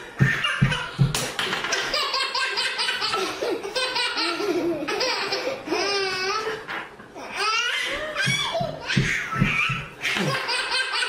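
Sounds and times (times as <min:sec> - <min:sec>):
baby laughing: 0:00.1 - 0:11.0.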